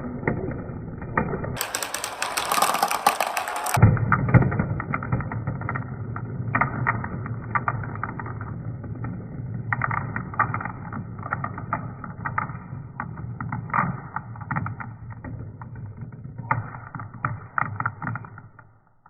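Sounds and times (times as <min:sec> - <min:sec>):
marbles clicking and knocking: 0:00.0 - 0:19.0
marbles rolling on wooden ramp: 0:00.0 - 0:19.0.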